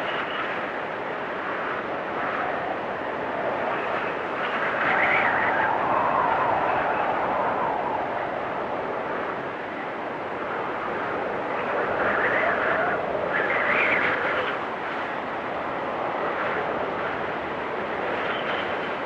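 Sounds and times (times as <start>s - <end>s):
storm wind whistling in gusts: 0.0s - 19.0s.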